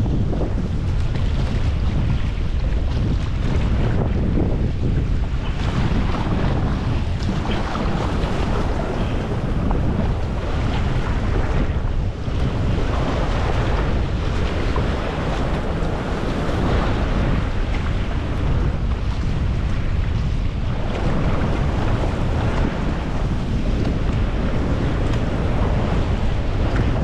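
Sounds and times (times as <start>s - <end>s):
paddle strokes splashing: 0.0s - 27.0s
waves sloshing and breaking: 0.0s - 27.0s
wind rumbling on microphone: 0.0s - 27.0s.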